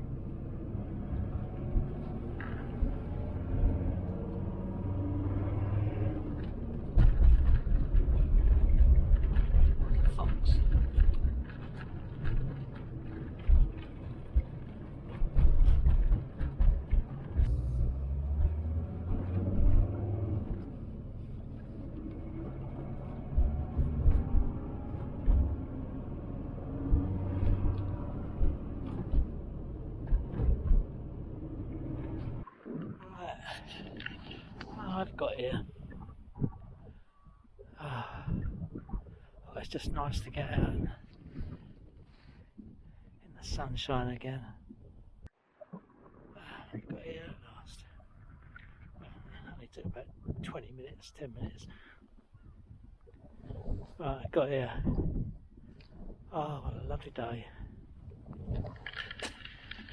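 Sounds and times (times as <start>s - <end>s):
low thumps over bumps: 0.0s - 33.0s, 34.4s - 45.9s, 46.8s - 58.9s
van engine and road hum: 0.0s - 45.4s, 46.3s - 59.9s.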